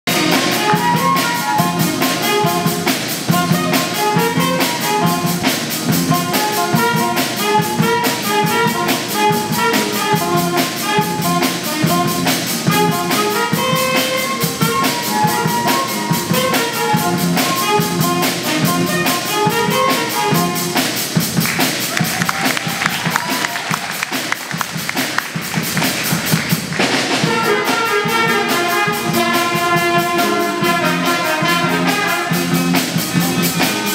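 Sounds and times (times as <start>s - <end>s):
jazz band playing: 0.0s - 33.9s
steady drum beat: 0.1s - 33.9s.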